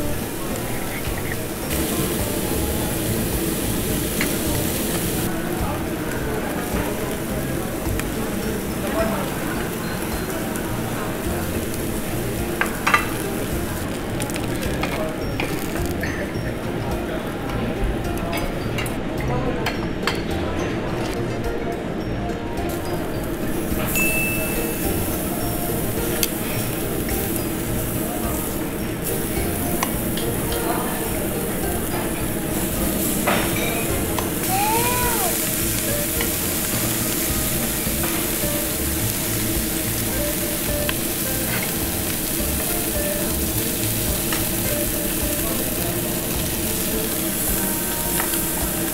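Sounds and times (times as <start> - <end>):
meat sizzling on a grill: 0.0 - 17.4, 22.7 - 48.9.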